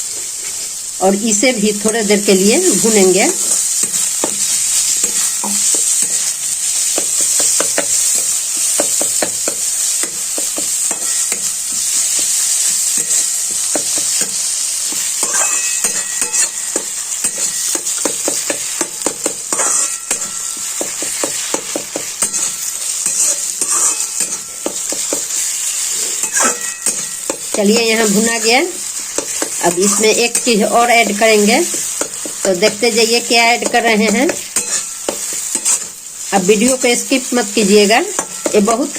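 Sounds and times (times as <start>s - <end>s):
leaves frying in oil: 0.0s - 38.9s
spatula scraping a pan: 1.8s - 38.9s.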